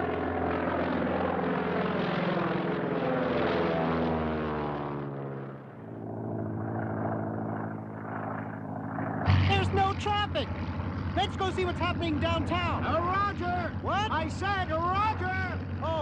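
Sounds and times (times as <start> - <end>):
biplane propeller engine droning: 0.0 - 16.0.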